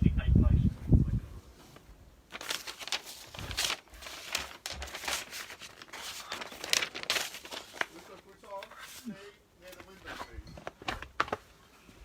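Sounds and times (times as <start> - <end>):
paper rustling and crinkling: 1.6 - 11.5.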